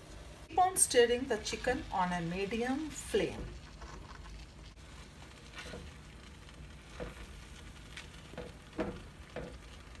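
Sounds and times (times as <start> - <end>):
faint sizzle: 0.0 - 10.0.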